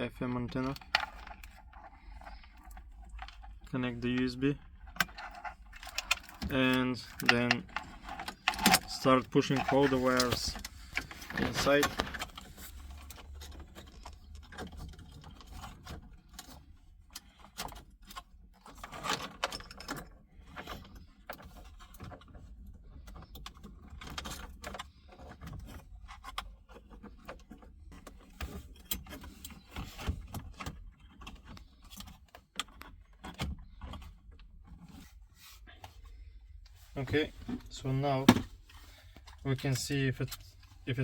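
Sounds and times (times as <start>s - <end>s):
cables and plastic connectors rattling: 0.0s - 41.0s.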